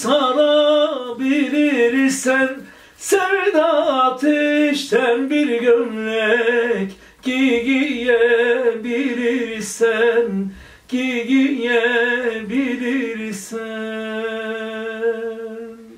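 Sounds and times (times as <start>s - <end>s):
man singing unaccompanied: 0.0s - 15.9s.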